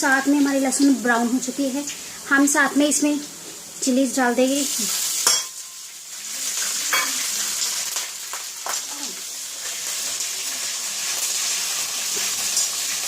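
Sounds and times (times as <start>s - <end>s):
chillies sizzling in hot oil: 0.0s - 13.0s.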